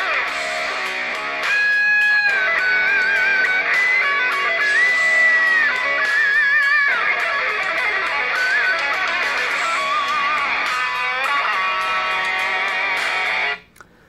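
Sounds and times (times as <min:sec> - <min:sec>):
guitar song from phone speaker: 0:00.0 - 0:13.7.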